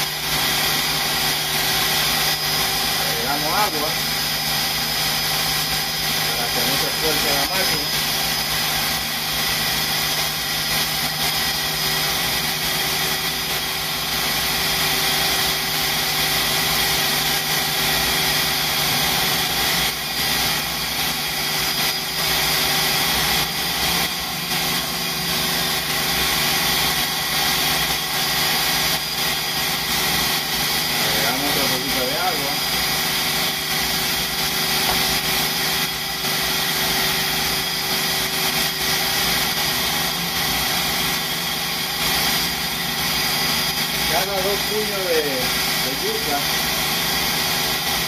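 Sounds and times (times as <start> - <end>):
food processor motor grinding: 0.0 - 48.0.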